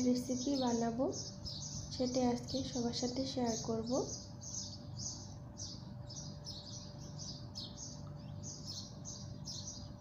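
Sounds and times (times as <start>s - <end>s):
faint hum: 0.0s - 10.0s
small bird chirping: 0.0s - 10.0s.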